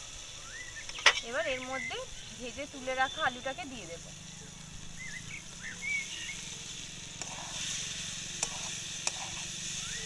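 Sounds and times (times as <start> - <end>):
potatoes sizzling in oil: 0.0 - 10.0.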